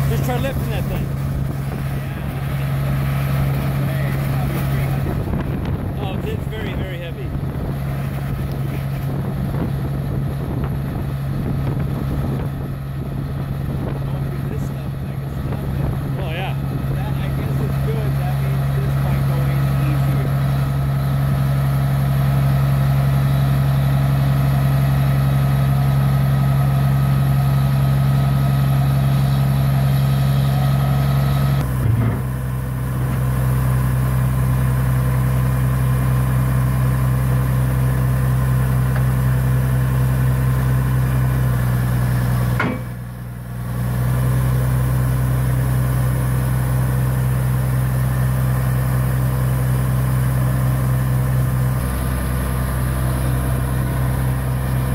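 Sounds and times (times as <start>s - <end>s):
drilling rig engine humming: 0.0s - 54.9s.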